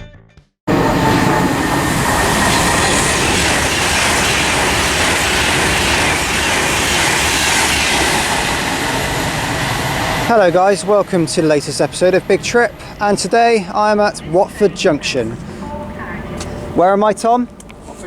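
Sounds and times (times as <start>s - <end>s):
train rushing past: 0.7s - 18.0s.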